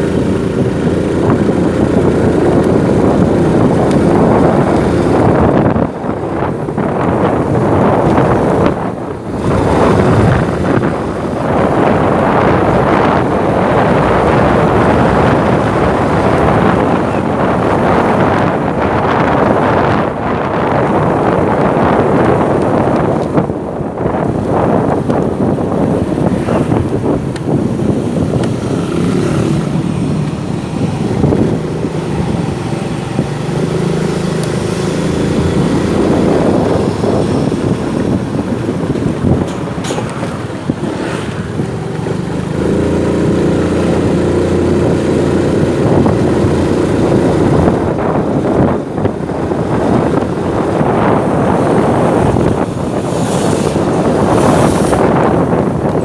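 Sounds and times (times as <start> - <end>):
motorcycle running: 0.0 - 56.0
wind buffeting microphone: 0.0 - 56.0.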